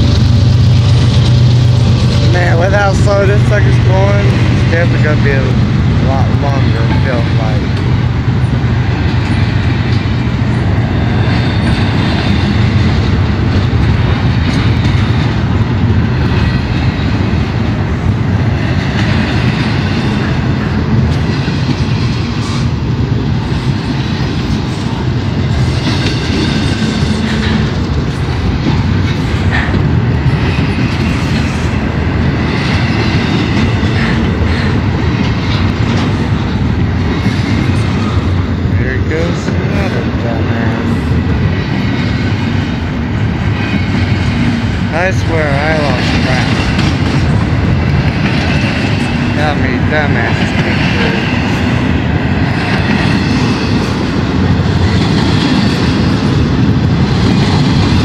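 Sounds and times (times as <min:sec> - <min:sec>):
low rumble of wheels on rail: 0:00.0 - 0:58.0.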